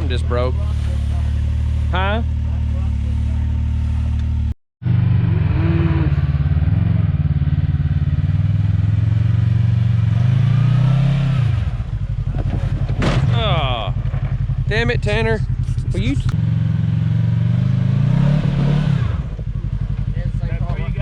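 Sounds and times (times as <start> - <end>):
utility vehicle engine idling and revving: 0.0 - 21.0.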